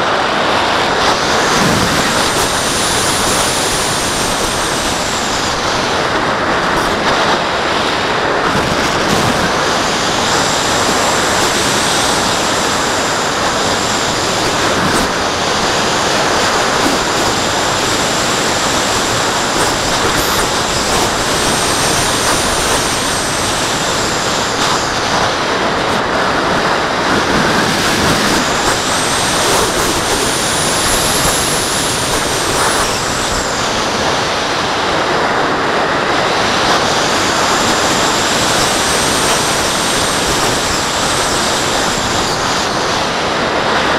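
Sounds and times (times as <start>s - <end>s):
airflow rushing over microphone: 0.0s - 43.9s.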